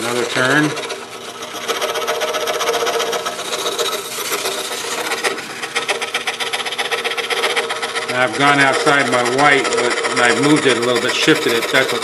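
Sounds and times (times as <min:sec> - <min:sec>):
scroll saw cutting wood: 0:00.0 - 0:12.0.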